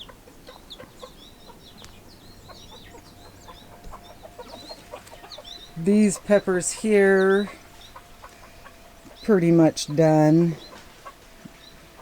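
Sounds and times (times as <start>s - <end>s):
chickens clucking: 0.0s - 12.0s
small birds chirping: 0.0s - 12.0s.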